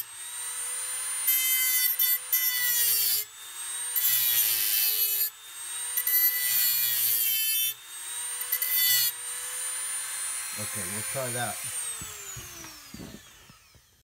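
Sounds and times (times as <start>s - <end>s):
rotary tool grinding metal: 0.0s - 14.0s
rotary tool whining: 0.0s - 14.0s.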